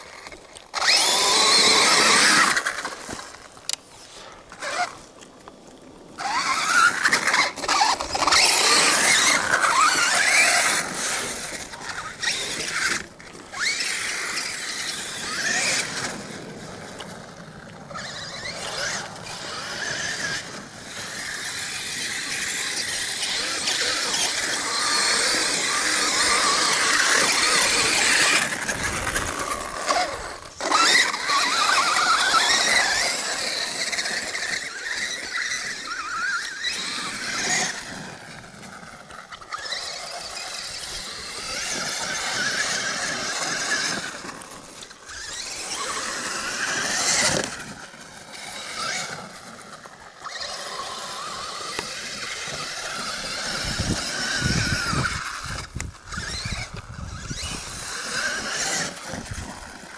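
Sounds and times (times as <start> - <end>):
rc truck motor whining: 0.0 - 59.9.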